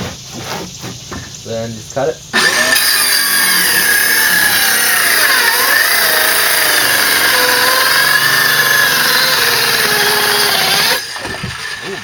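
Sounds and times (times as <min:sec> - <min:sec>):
circular saw cutting plywood: 0:02.3 - 0:12.0.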